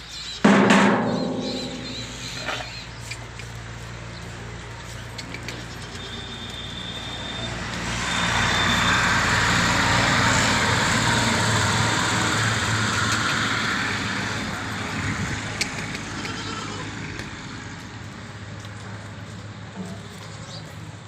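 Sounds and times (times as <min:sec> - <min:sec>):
road vehicle passing by: 0:01.8 - 0:21.0.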